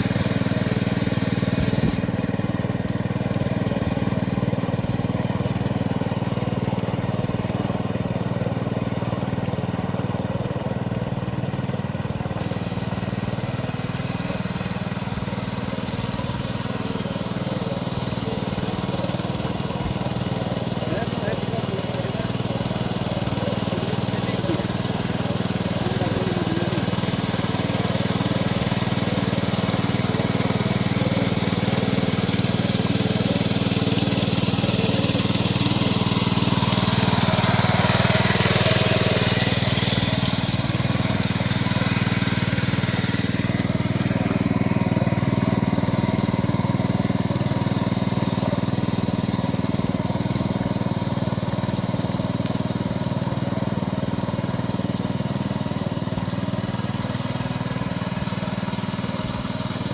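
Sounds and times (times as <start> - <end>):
power weeder engine running: 0.0 - 59.9.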